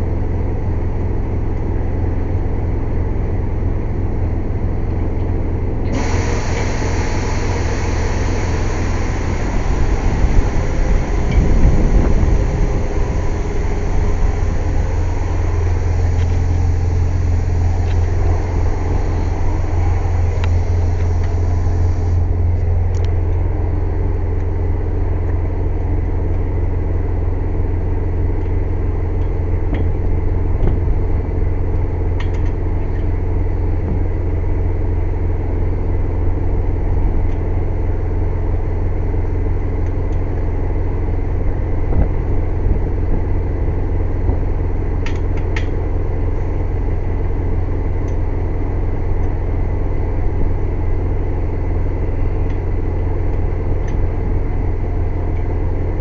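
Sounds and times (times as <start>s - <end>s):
air compressor droning: 5.7s - 35.9s, 37.8s - 56.0s.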